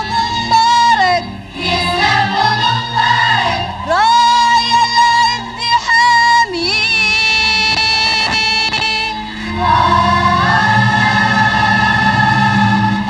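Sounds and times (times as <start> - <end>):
accompanying music: 0.0 - 13.0.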